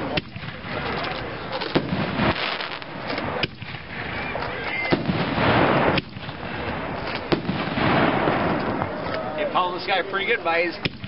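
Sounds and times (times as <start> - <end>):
firework bangs: 0.0 - 9.9, 10.7 - 11.0.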